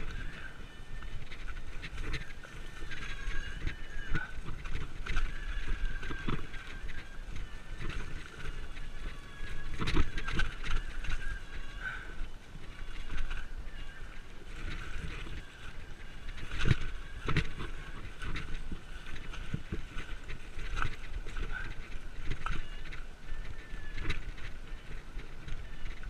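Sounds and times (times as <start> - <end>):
bike rattling and knocking: 0.0 - 26.0
bike tyres rolling on dirt: 0.0 - 26.0.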